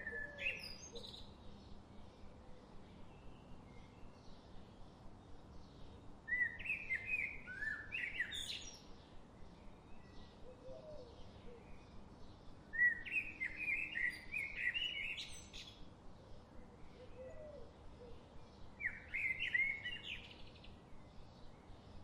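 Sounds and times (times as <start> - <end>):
birds chirping and warbling: 0.0 - 22.0
low background hiss: 0.0 - 22.0.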